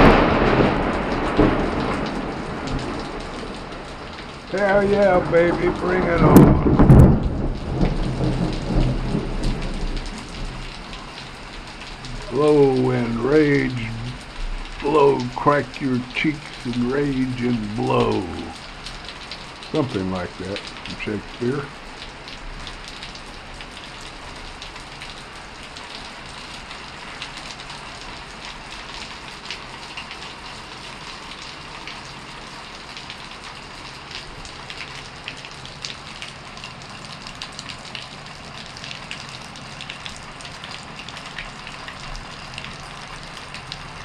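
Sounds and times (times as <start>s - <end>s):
rain falling steadily: 0.0s - 44.0s
raindrops ticking close by: 0.0s - 44.0s.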